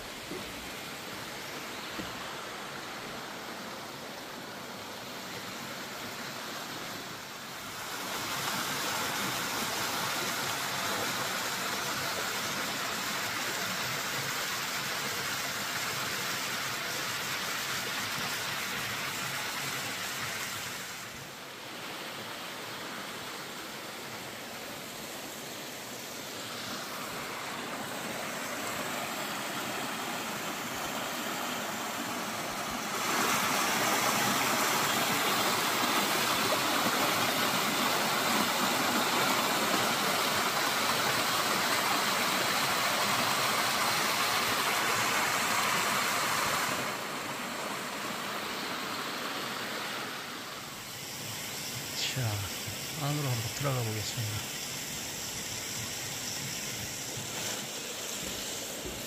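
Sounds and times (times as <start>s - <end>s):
stream running water: 0.0s - 59.0s.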